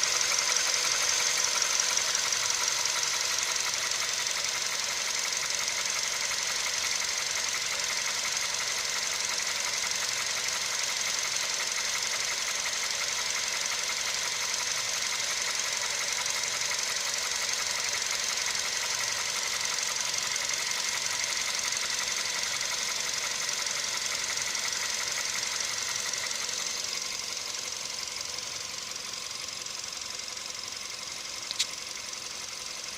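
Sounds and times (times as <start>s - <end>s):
car engine idling with knock: 0.0s - 32.9s.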